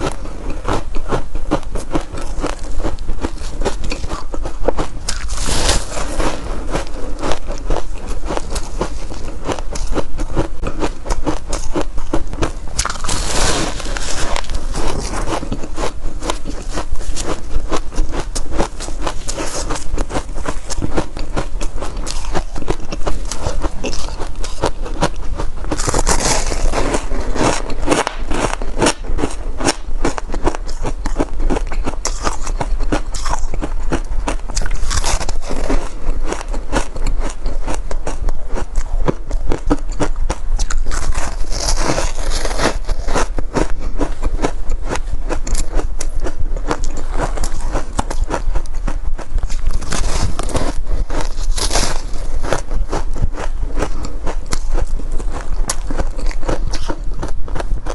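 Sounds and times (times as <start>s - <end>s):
chewing crunchy ice: 0.0s - 57.9s.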